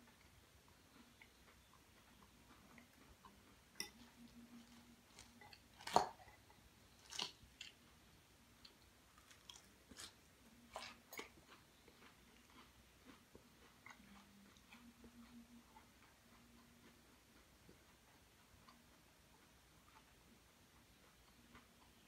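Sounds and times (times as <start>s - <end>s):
chewing lettuce: 0.0s - 22.0s.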